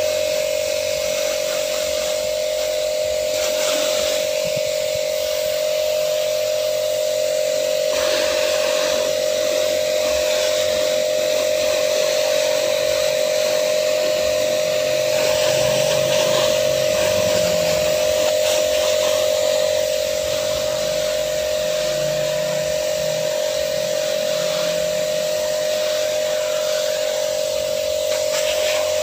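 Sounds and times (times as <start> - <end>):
pressure washer motor hum: 0.0 - 29.0
water jet spraying hiss: 0.0 - 29.0.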